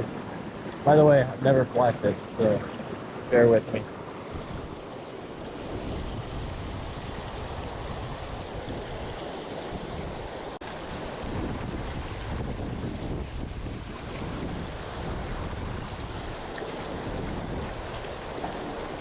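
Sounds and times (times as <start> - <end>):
creek water rushing: 0.0 - 19.0
wind buffeting microphone: 0.0 - 19.0.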